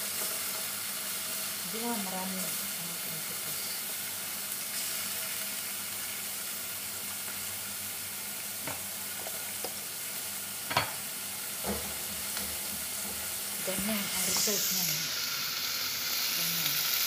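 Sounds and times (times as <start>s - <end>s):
oil sizzling in a pot: 0.0s - 17.0s.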